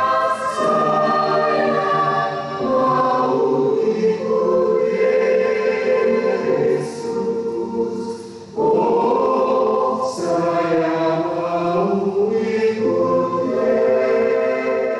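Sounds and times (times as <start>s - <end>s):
mixed choir singing a hymn: 0.0s - 14.9s.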